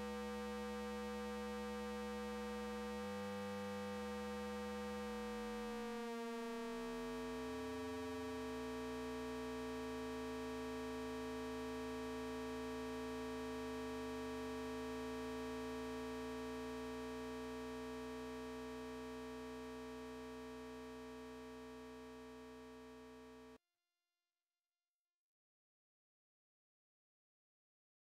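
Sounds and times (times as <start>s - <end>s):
synthesizer square-wave drone: 0.0s - 23.6s.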